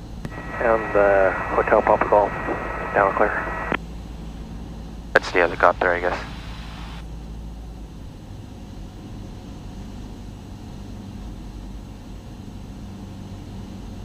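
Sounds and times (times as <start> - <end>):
airplane engine droning: 0.0 - 14.0.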